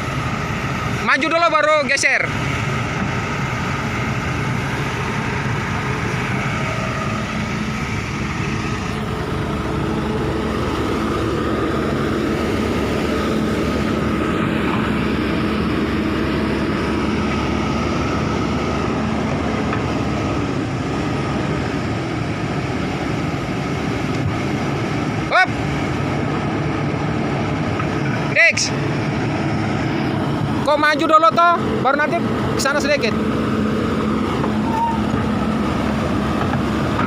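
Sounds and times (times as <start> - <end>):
excavator diesel engine running: 0.0 - 37.0
steady whine: 0.0 - 37.0.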